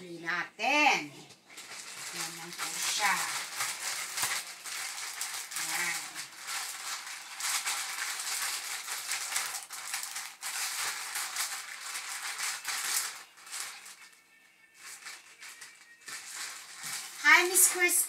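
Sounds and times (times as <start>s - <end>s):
plastic bag crinkling: 1.2s - 18.0s.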